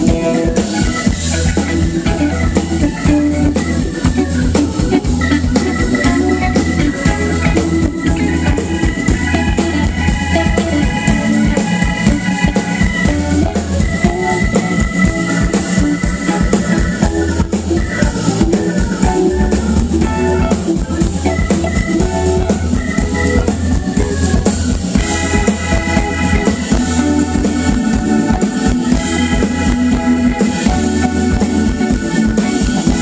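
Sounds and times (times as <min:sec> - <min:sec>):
bass line: 0:00.0 - 0:33.0
drum kit beat: 0:00.0 - 0:33.0
electric guitar melody: 0:00.0 - 0:33.0.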